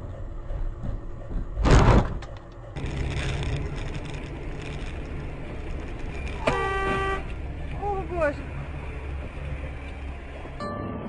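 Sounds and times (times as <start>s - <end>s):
vehicle and road noise: 0.0s - 11.0s.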